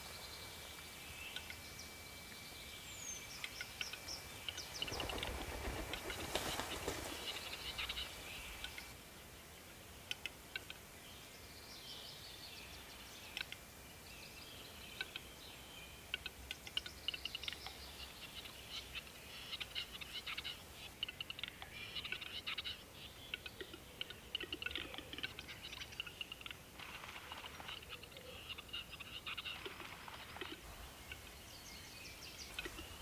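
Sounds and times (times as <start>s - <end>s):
faint songbirds calling: 0.0s - 33.0s.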